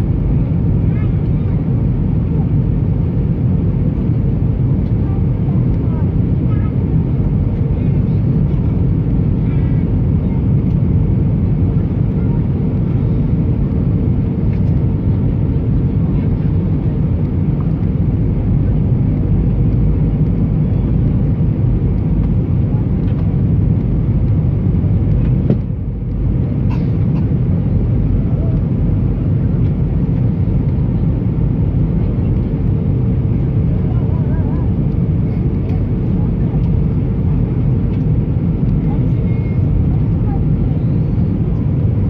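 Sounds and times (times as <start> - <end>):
aircraft engines roaring in cabin: 0.0 - 42.0
faint constant hum: 0.0 - 42.0.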